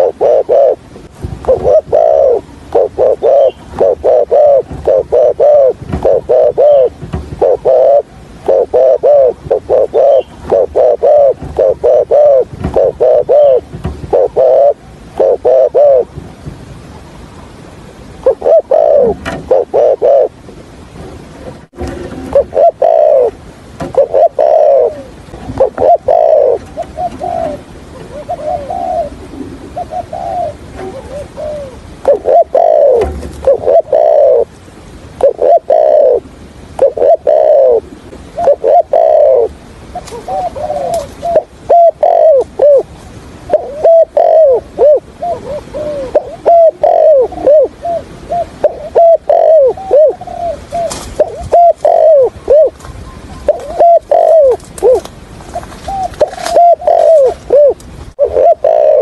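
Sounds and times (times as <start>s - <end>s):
dove cooing: 0.0s - 16.2s, 18.0s - 20.4s, 21.4s - 34.5s, 35.2s - 59.0s.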